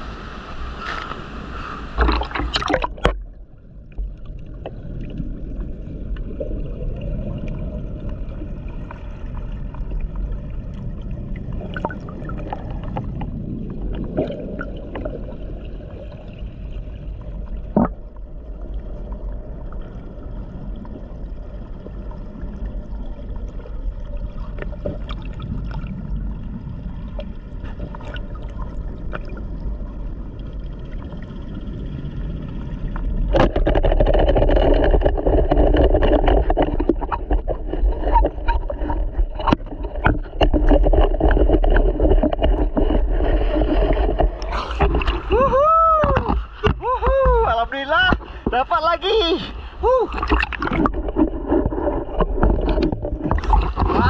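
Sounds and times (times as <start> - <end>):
muffled underwater river rush: 0.0 - 54.0
water splashing: 0.0 - 54.0.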